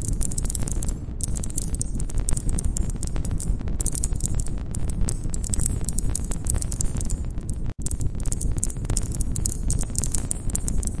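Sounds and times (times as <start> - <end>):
low rumble of burning fire: 0.0 - 11.0.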